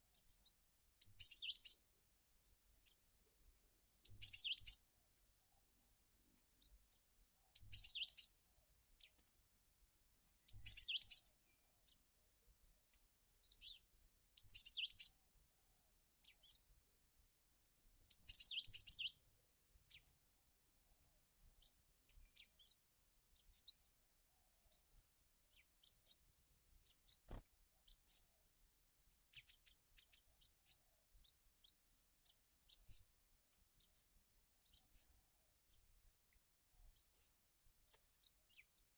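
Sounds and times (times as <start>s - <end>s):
bird chirping: 0.0s - 9.3s, 10.2s - 12.7s, 13.3s - 15.3s, 16.2s - 20.2s, 20.8s - 38.9s.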